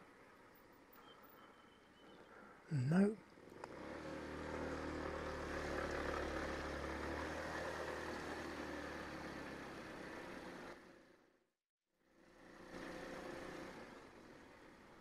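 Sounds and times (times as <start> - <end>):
road and wind noise: 0.0 - 11.4, 12.0 - 15.0.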